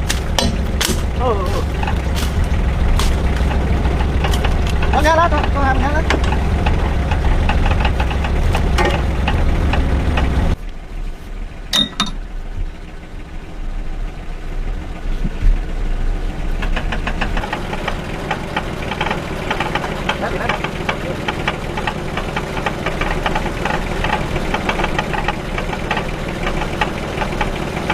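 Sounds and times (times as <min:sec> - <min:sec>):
engine knocking: 0:00.0 - 0:10.6, 0:12.4 - 0:27.9.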